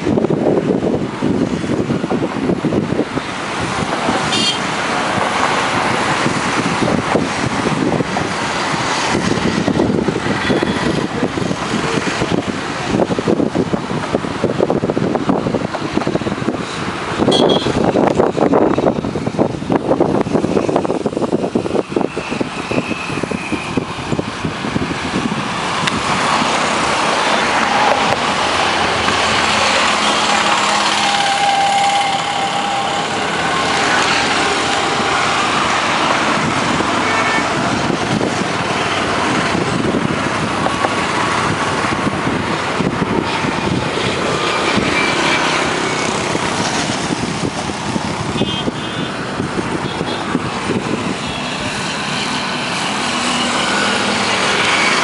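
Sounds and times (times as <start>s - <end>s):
traffic passing on bridge: 0.0s - 55.0s.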